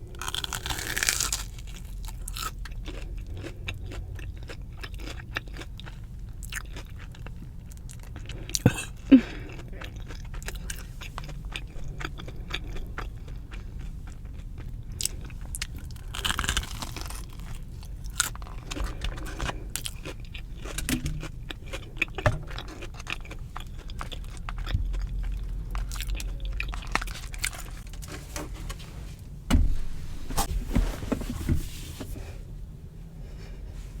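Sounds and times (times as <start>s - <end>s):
crunching fried food: 0.0s - 28.2s
wet chewing: 0.2s - 28.1s.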